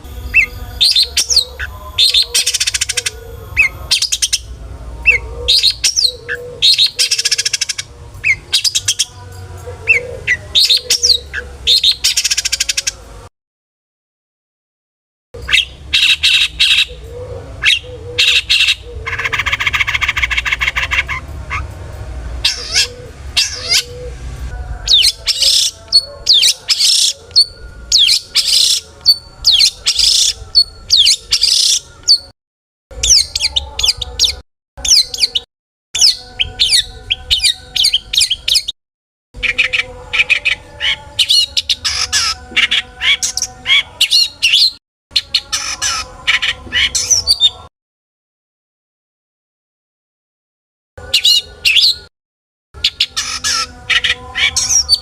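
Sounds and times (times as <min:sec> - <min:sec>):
shrike singing varied song: 0:00.0 - 0:13.1, 0:15.4 - 0:32.3, 0:32.9 - 0:38.8, 0:39.4 - 0:47.7, 0:52.8 - 0:55.0.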